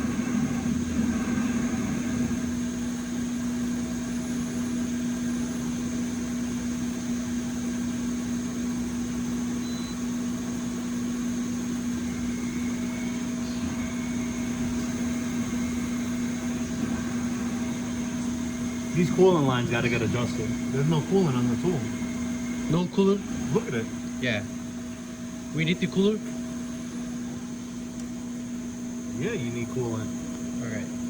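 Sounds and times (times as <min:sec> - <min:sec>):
milling machine drone: 0:00.0 - 0:31.0.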